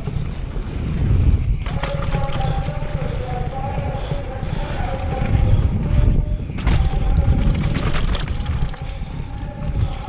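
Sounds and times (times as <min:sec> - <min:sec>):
bike rattling over rough ground: 0:00.0 - 0:10.0
bike tyres rumbling: 0:00.0 - 0:10.0
wind on microphone: 0:00.0 - 0:10.0.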